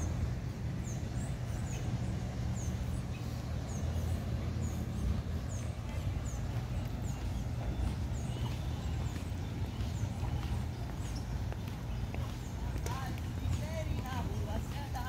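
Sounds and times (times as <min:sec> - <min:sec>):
city traffic rumble: 0:00.0 - 0:15.0
small birds chirping: 0:00.0 - 0:15.0.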